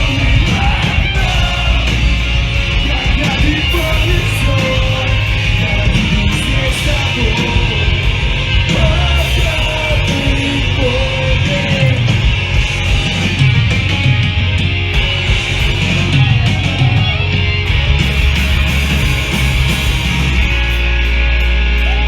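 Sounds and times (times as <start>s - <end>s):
bass: 0.0s - 22.0s
distorted guitars: 0.0s - 22.0s
drums: 0.0s - 22.0s.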